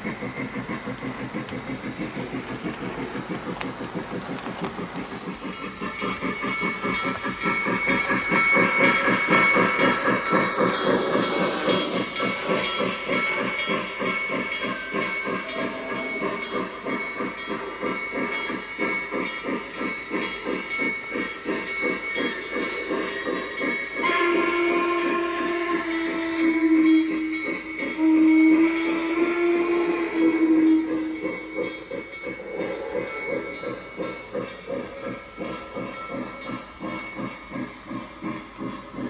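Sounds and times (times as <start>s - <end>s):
model steam locomotive chuffing: 0.0s - 39.0s
model train rolling on track: 0.0s - 39.0s.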